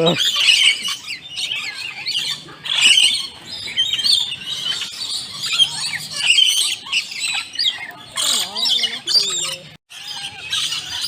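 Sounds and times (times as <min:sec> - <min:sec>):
many birds chirping and squawking: 0:00.0 - 0:11.0.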